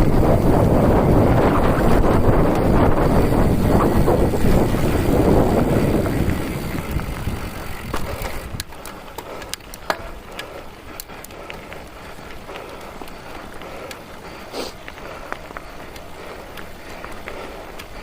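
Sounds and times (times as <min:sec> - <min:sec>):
wind buffeting microphone: 0:00.0 - 0:18.0
sharp clicks and ticks: 0:01.7 - 0:18.0.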